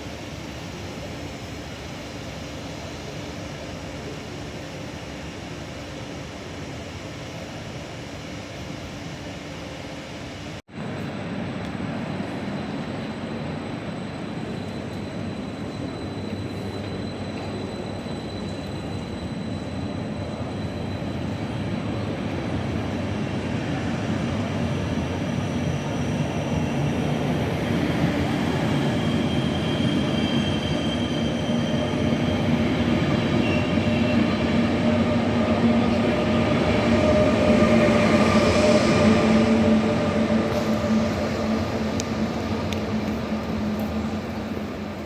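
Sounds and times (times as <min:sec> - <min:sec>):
train approaching: 0:00.0 - 0:45.0.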